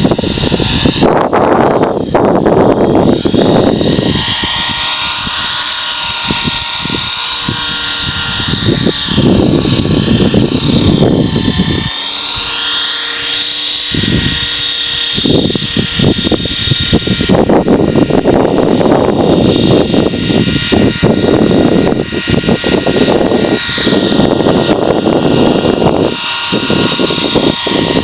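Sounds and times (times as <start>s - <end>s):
model helicopter rotor whine: 0.0s - 28.0s
wind buffeting microphone: 0.0s - 28.0s.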